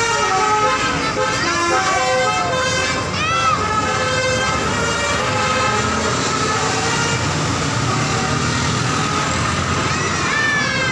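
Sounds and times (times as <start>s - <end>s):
multi-tone horn: 0.0s - 9.3s
road noise: 0.0s - 10.9s.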